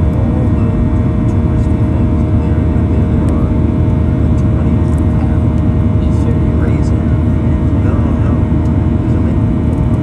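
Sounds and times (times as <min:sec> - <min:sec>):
jet engine roar in cabin: 0:00.0 - 0:10.0.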